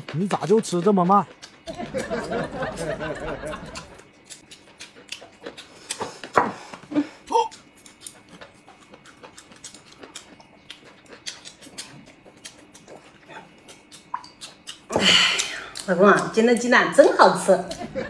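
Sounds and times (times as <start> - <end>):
wet chewing clicks: 0.0 - 6.4, 7.2 - 18.0.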